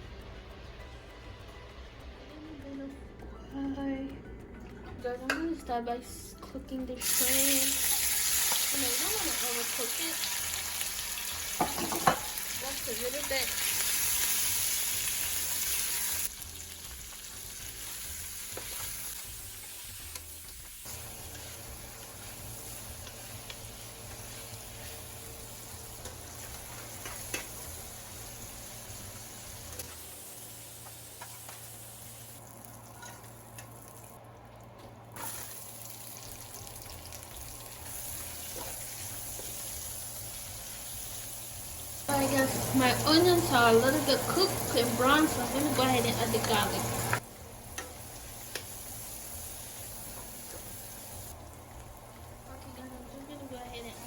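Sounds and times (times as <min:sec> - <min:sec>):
food sizzling in a pan: 0:07.0 - 0:34.4, 0:35.1 - 0:54.0.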